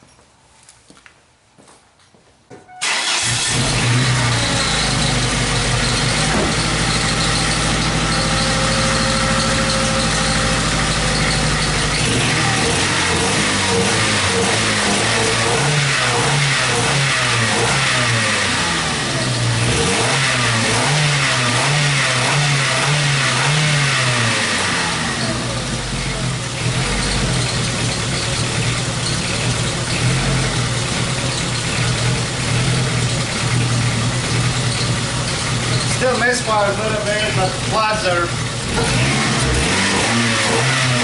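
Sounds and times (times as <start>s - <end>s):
car engine running: 2.8s - 41.0s.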